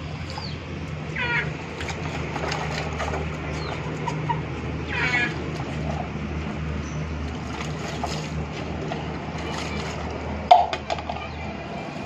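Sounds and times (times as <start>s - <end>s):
water sloshing in a bucket: 0.0s - 12.0s.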